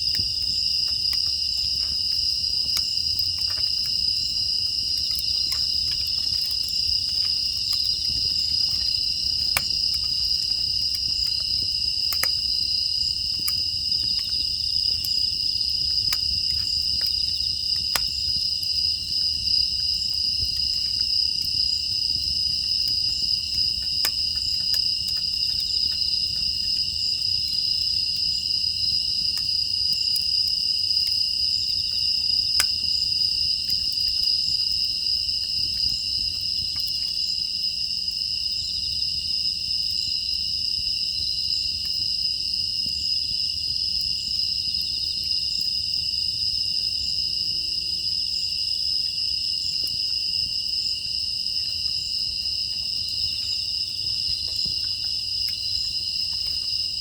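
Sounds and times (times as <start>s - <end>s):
firewood crackling: 0.0s - 38.7s, 48.3s - 57.0s
insects chirping: 0.0s - 57.0s.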